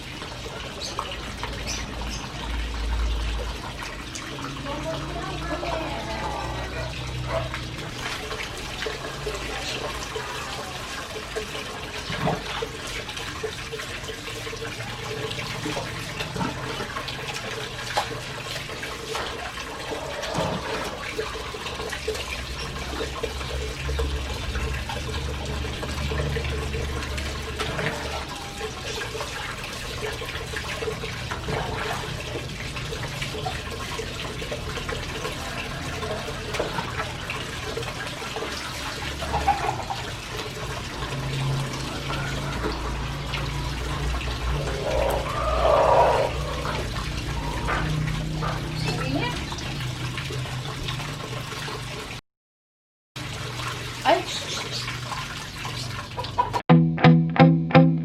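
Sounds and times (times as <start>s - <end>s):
water running and splashing: 0.0s - 52.2s, 53.2s - 56.6s.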